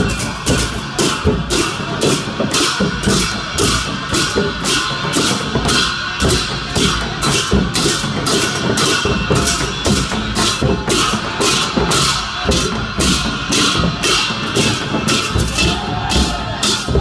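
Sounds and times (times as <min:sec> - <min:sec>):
drums playing steady beat: 0:00.0 - 0:17.0
hand cymbals clashing: 0:00.0 - 0:17.0.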